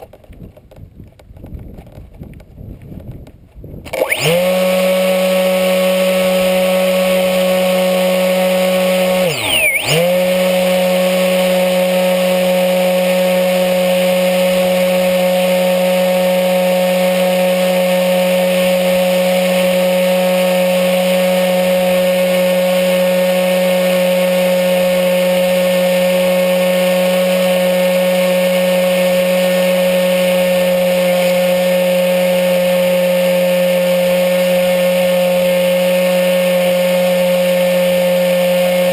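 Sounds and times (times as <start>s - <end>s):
model plane motor whining: 3.8s - 38.9s.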